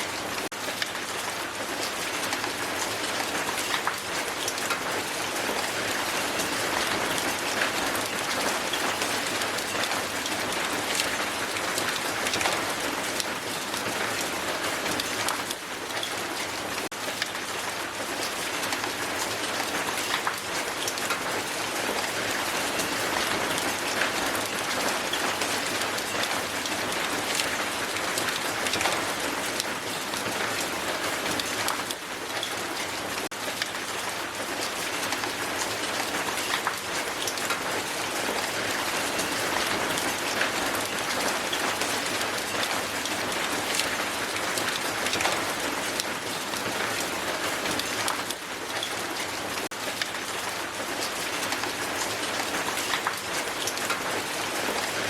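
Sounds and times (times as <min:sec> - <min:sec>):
hail falling on ground: 0:00.0 - 0:55.0.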